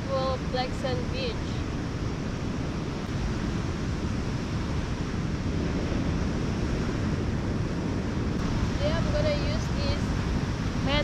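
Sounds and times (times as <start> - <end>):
ocean surf washing on beach: 0.0 - 11.0
wind buffeting microphone: 0.0 - 11.0.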